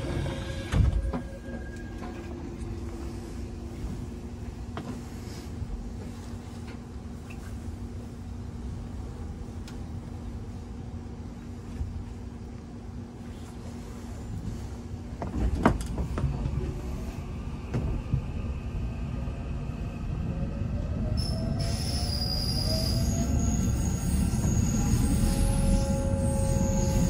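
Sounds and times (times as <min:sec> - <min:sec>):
subway train running noise: 0:00.0 - 0:27.0.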